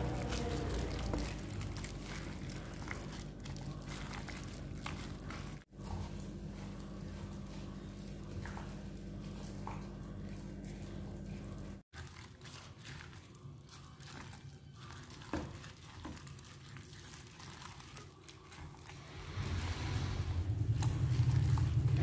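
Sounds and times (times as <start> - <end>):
plastic glove crinkling: 0.0 - 19.6, 20.4 - 22.0
gloved hand kneading wet meat: 0.0 - 22.0.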